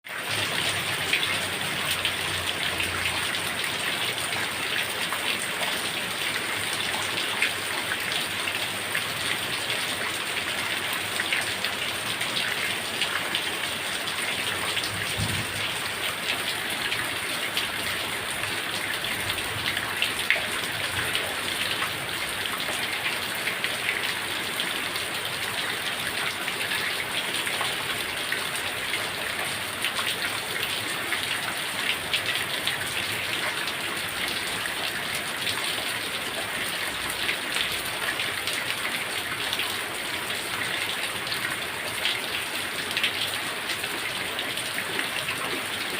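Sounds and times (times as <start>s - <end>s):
heavy rain: 0.1s - 45.9s.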